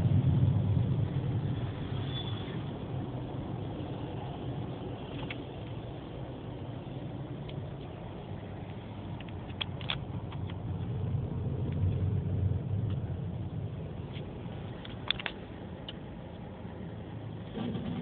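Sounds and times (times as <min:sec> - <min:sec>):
car driving rumble: 0:00.0 - 0:18.0.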